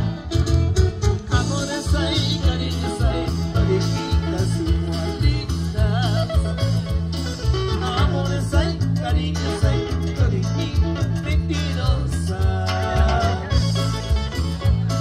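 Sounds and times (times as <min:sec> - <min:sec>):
guitar: 0:00.0 - 0:15.0
live dance band over loudspeakers: 0:00.0 - 0:15.0
person singing: 0:01.2 - 0:14.0.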